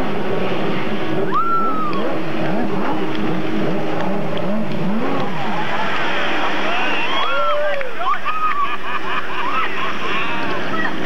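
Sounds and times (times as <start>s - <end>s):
jet ski engines revving: 0.0s - 11.0s.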